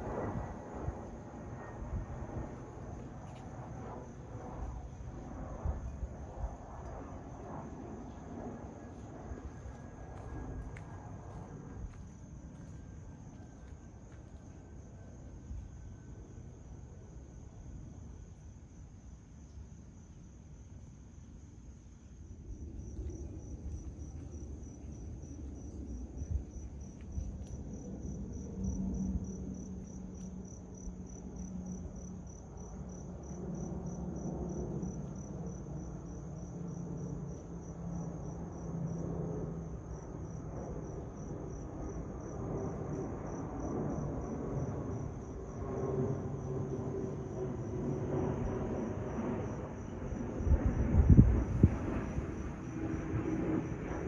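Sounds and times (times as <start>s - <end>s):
distant jet airliner rumble: 0.0s - 17.3s, 22.2s - 54.0s
crickets chirping: 0.0s - 54.0s.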